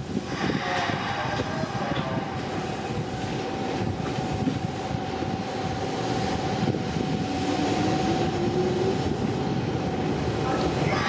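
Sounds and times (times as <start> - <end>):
electric train accelerating: 0.0 - 11.0.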